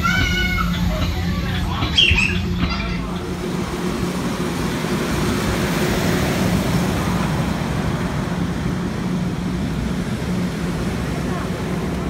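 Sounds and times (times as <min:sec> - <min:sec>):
street traffic noise: 0:00.0 - 0:12.0
train humming at platform: 0:00.0 - 0:12.0.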